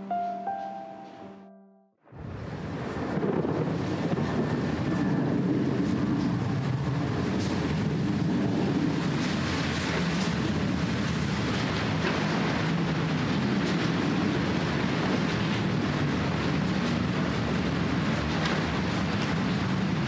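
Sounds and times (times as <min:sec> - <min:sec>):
low rumble of city traffic: 0:02.0 - 0:20.0.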